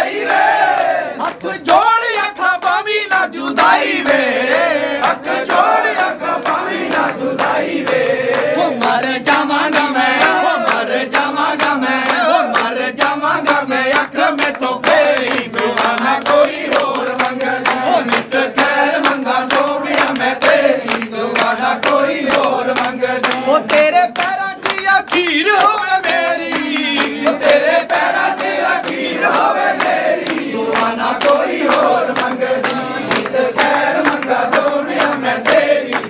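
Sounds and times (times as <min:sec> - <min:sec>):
group singing devotional song: 0:00.0 - 0:36.0
rhythmic hand-clapping: 0:00.0 - 0:36.0.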